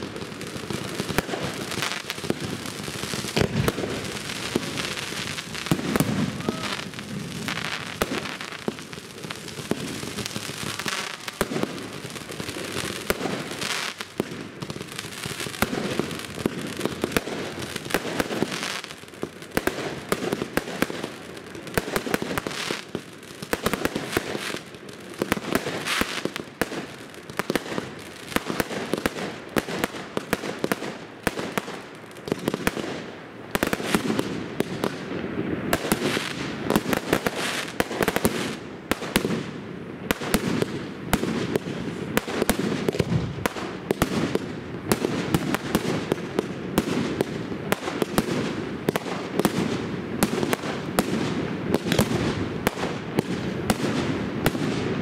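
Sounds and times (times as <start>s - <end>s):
fireworks bangs and launch thuds: 0.0s - 24.6s, 33.6s - 55.0s.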